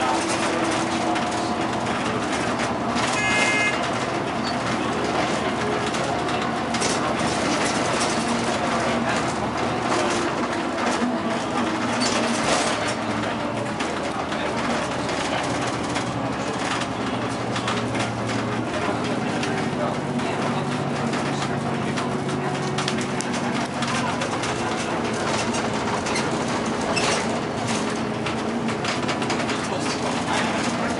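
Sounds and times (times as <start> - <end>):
bus engine and road noise: 0.0 - 30.9
interior rattles and clicks: 0.0 - 30.9.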